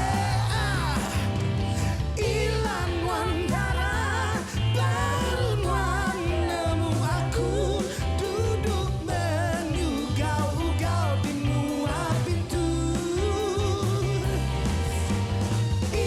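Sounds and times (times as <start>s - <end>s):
person singing: 0.0s - 1.4s, 2.2s - 14.8s
live band playing pop song: 0.0s - 16.0s.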